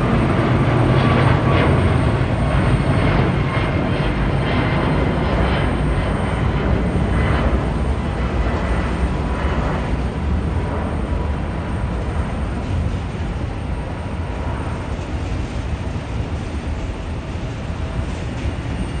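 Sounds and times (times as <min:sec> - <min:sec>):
jet airliner engines rumbling: 0:00.0 - 0:19.0.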